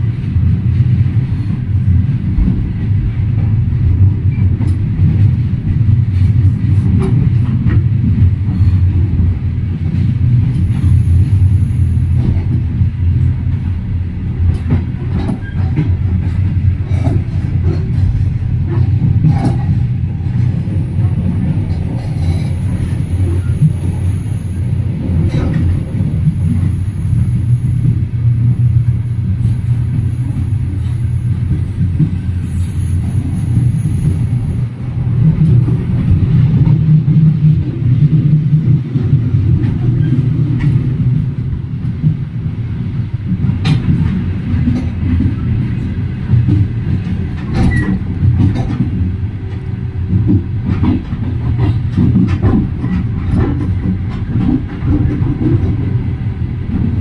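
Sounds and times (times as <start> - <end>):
rail joints clacking: 0.0 - 57.0
train wheels rumbling: 0.0 - 57.0.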